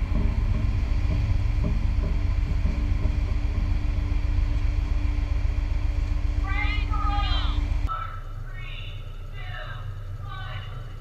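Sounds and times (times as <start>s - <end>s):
constant hum: 0.0s - 11.0s
steady low rumble: 0.0s - 11.0s.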